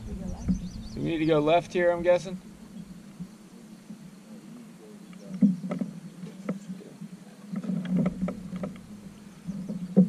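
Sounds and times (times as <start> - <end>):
steady water noise: 0.0 - 10.0.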